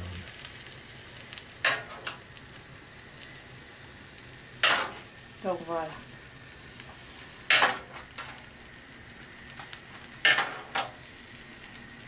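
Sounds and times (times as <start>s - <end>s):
butter sizzling on hot fish: 0.0s - 12.0s.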